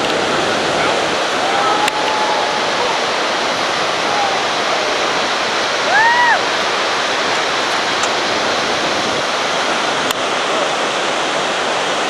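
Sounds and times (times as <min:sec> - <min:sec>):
river rapids roaring: 0:00.0 - 0:12.0.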